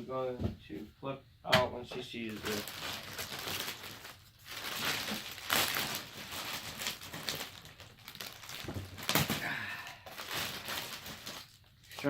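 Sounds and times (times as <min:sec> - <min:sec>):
packaging rustling: 0:02.2 - 0:12.0.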